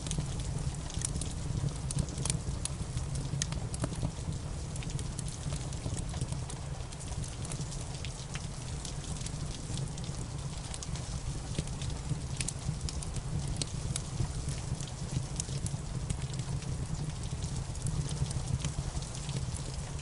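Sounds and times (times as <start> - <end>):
steady rain: 0.0 - 20.0
wood fire crackling: 0.0 - 20.0.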